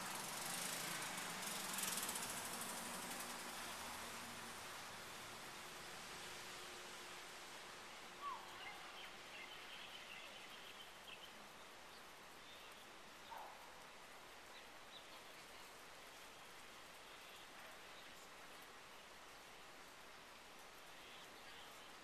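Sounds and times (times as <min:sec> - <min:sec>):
rain on vegetation: 0:00.0 - 0:22.0.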